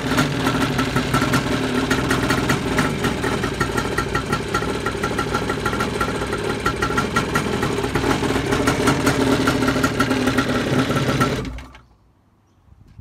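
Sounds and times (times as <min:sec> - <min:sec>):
jet ski engine idling: 0:00.0 - 0:11.8.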